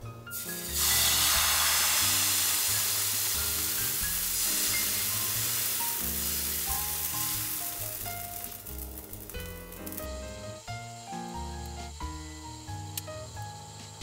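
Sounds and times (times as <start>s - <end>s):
light background music: 0.0s - 14.0s
batter sizzling in hot pan: 0.3s - 14.0s.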